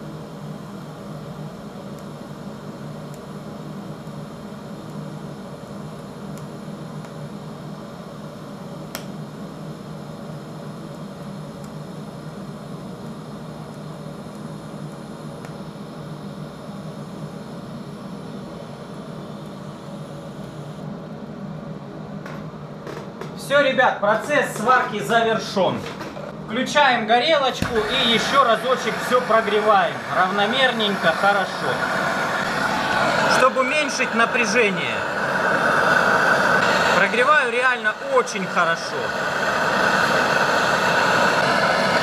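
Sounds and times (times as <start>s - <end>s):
welding arc humming and hissing: 0.0s - 42.0s.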